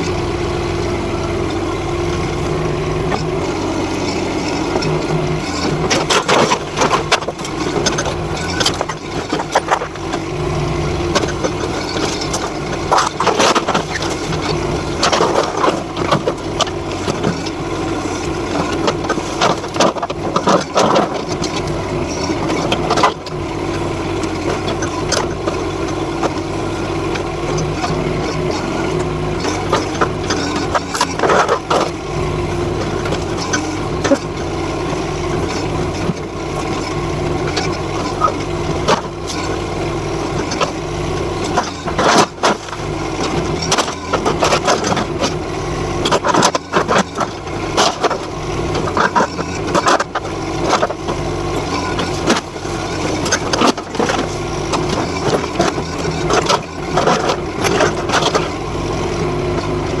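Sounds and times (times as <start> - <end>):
excavator engine running: 0.0 - 60.0.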